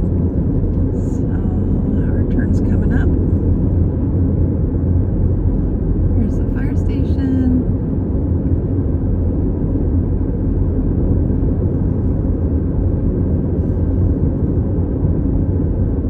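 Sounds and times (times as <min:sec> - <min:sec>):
car engine and tyre road noise: 0:00.0 - 0:16.0.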